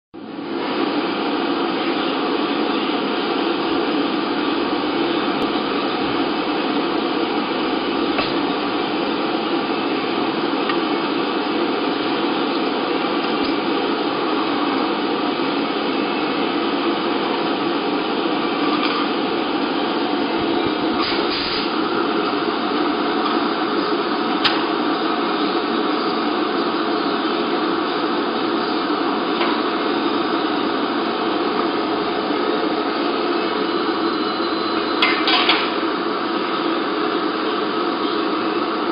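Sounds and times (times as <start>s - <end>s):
machine whirring hiss: 0.4s - 38.9s.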